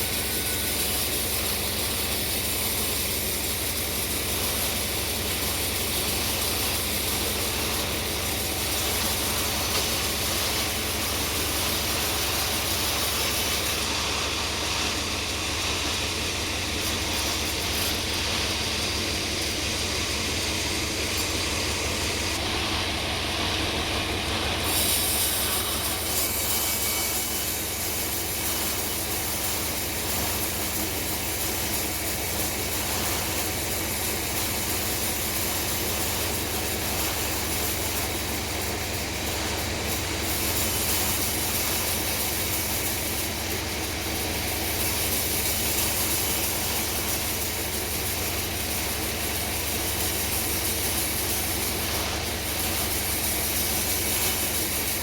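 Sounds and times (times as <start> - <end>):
sawmill sawing log: 0.0 - 55.0.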